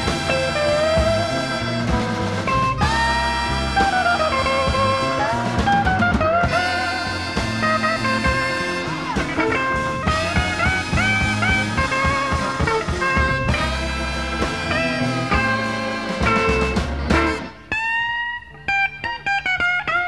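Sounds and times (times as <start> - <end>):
electric blues band playing: 0.0 - 20.0
electric guitar bent notes: 0.0 - 20.0.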